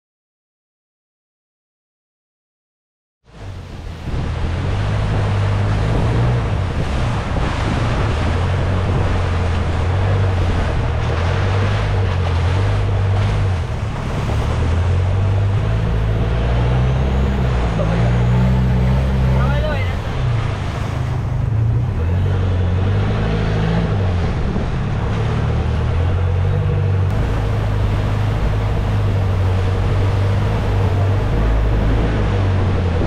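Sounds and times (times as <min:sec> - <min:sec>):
rush of wind and water: 0:03.2 - 0:33.0
motorboat engine running: 0:03.3 - 0:33.0.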